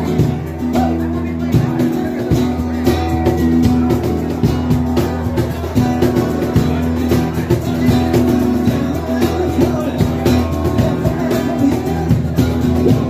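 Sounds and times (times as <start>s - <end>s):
acoustic guitars strumming: 0.0s - 13.0s
hand percussion: 0.0s - 13.0s.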